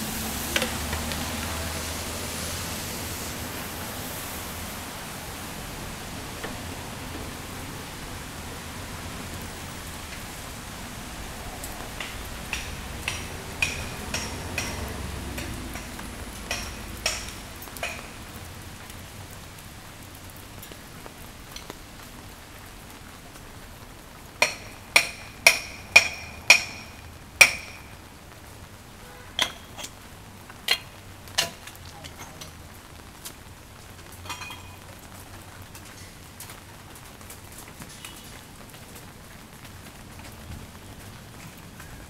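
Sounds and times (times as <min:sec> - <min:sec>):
steady rain: 0:00.0 - 0:42.0
large drops dripping: 0:00.2 - 0:42.0.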